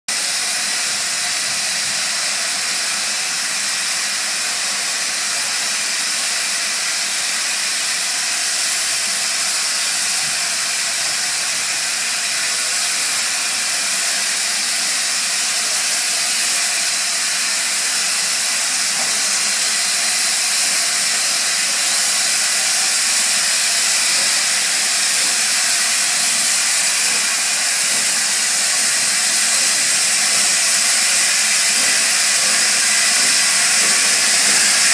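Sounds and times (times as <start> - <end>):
steam hissing from locomotive: 0.1 - 34.9.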